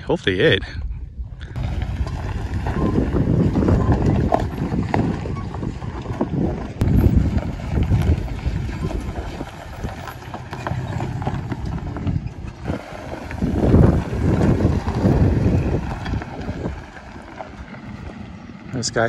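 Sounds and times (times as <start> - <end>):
truck crawling over rocks: 1.4 - 19.0.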